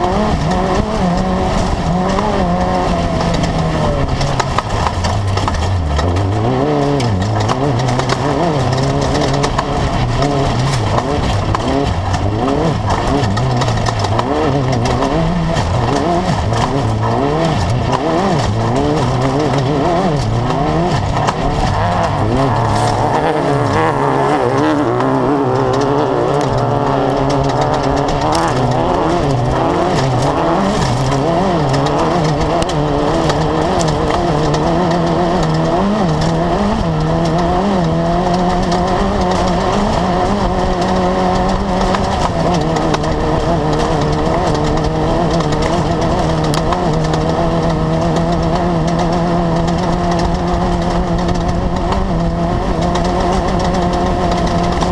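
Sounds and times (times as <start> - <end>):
knocks and rattles: 0.0 - 54.9
race car engine revving: 0.0 - 54.9.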